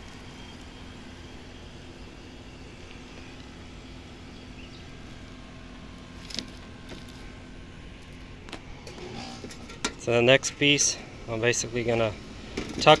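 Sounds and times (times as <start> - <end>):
faint steady hum: 0.0 - 13.0
low outdoor rumble: 0.0 - 13.0.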